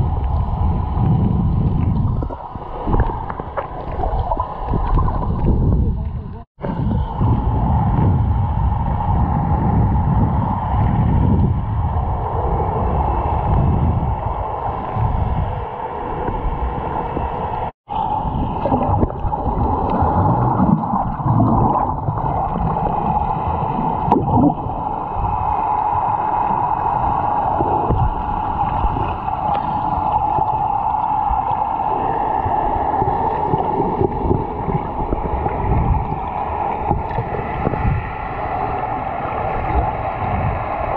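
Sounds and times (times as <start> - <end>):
steady hum: 0.0 - 40.9
water sloshing and gurgling: 0.0 - 40.9.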